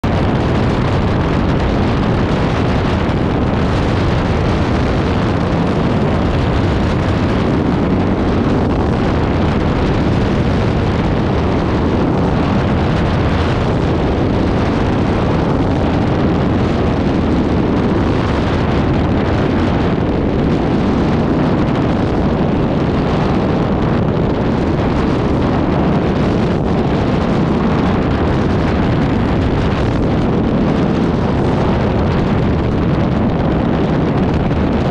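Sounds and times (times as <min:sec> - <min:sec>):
aircraft engine drone: 0:00.0 - 0:34.9
wind buffeting on microphone: 0:00.0 - 0:34.9
wind rushing: 0:00.0 - 0:34.9.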